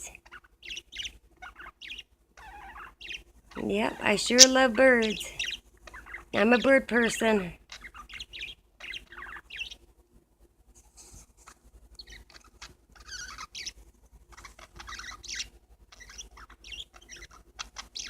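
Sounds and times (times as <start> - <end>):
parakeets chirping: 0.0 - 9.9, 11.4 - 18.0.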